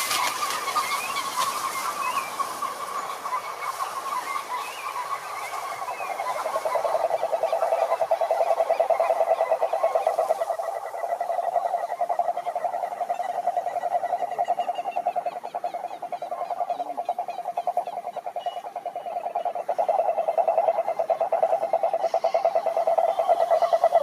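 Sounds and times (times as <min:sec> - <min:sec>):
frogs trilling: 0:00.0 - 0:24.0
higher frog calls: 0:03.2 - 0:24.0.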